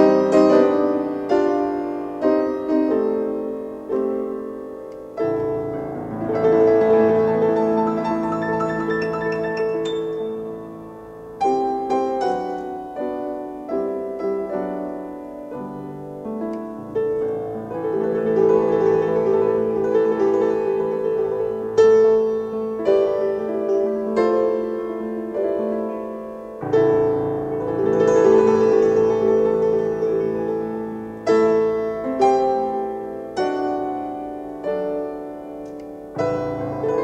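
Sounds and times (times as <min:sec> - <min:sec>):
grand piano chords: 0:00.0 - 0:37.0.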